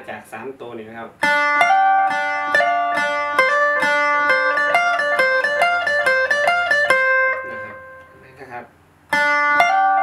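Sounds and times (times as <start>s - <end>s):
plucked lute melody: 1.1s - 8.2s, 9.1s - 10.0s.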